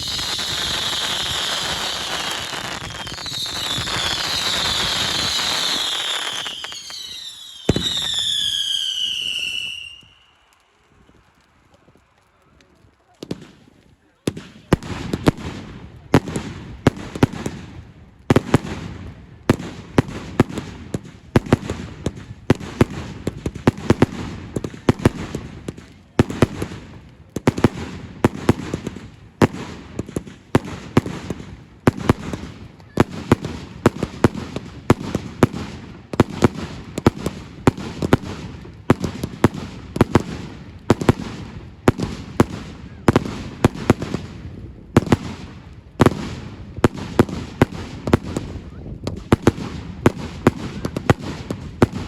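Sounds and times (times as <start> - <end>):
fireworks bangs: 0.0 - 12.0, 12.6 - 52.0.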